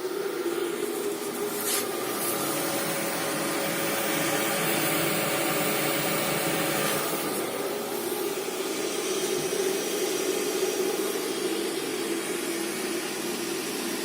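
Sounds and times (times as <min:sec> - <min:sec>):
fan air rushing: 0:00.0 - 0:14.0.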